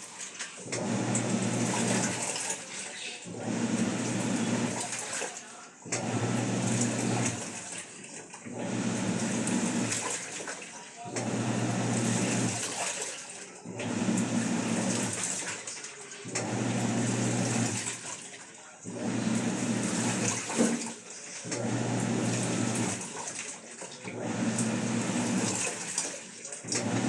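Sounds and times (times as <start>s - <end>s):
washing machine churning: 0.0s - 27.0s.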